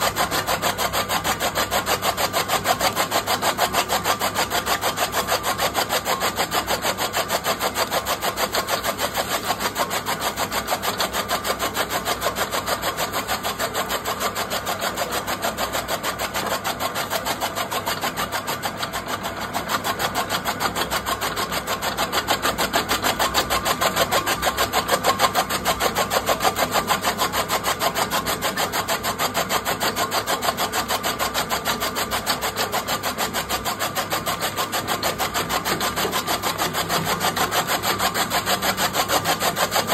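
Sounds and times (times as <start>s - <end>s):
chaff cutter chopping stalks: 0.0s - 39.9s.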